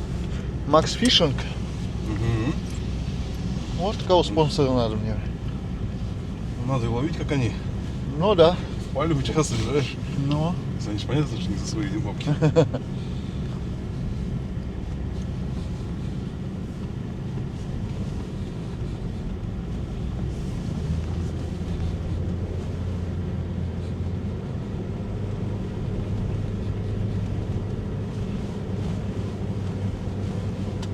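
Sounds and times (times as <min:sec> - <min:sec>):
road and wind noise: 0:00.0 - 0:30.9
vehicle engine drone: 0:00.0 - 0:30.9.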